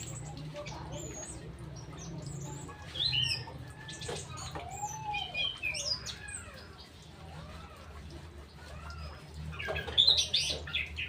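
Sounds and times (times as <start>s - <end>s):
songbirds chirping and calling: 0.0s - 11.0s.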